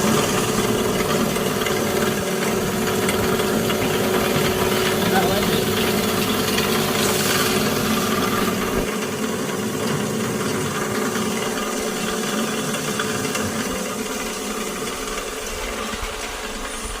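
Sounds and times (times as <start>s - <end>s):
grinding machine drone and rattle: 0.0s - 17.0s.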